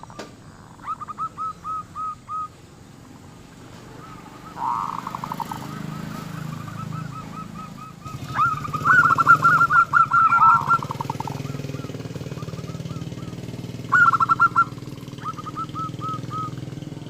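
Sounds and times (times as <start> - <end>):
doves cooing: 0.0 - 17.0
low engine hum: 0.0 - 17.0.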